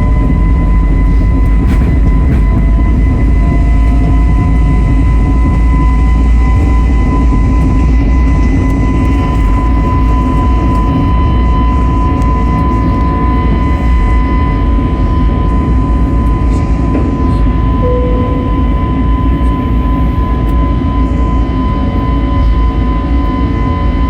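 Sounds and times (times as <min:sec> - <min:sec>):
high jet engine whine: 0:00.0 - 0:24.0
low engine rumble in cabin: 0:00.0 - 0:24.0.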